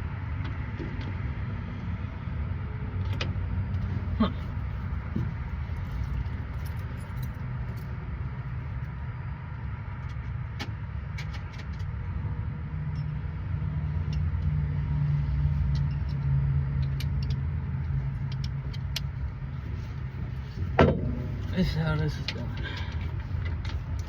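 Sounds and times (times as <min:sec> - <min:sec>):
low engine rumble with hum: 0:00.0 - 0:24.0.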